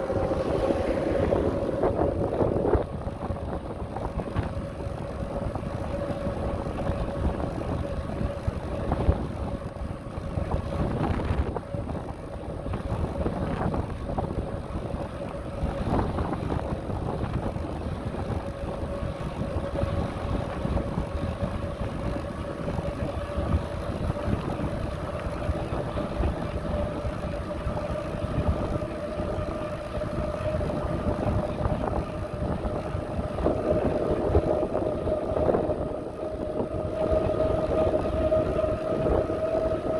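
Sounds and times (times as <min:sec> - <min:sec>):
bicycle rolling noise: 0:00.0 - 0:39.9
thin steady whine: 0:00.0 - 0:39.9
wind buffeting microphone: 0:00.0 - 0:39.9.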